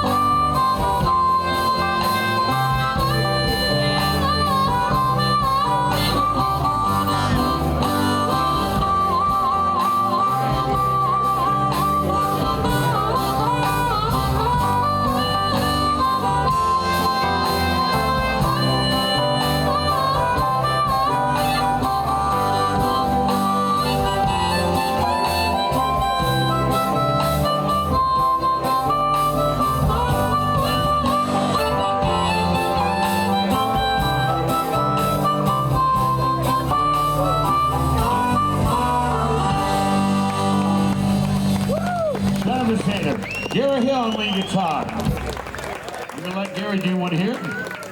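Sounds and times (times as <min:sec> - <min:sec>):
harmonica solo: 0:00.0 - 0:44.8
live band playing: 0:00.0 - 0:47.9.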